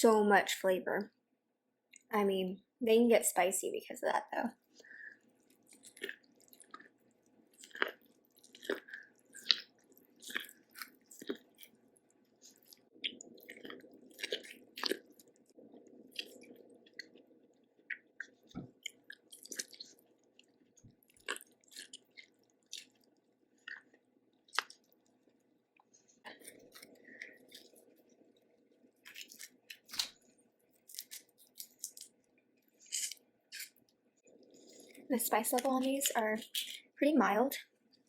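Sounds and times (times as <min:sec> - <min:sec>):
chewing and mouth smacks: 0:04.7 - 0:36.9.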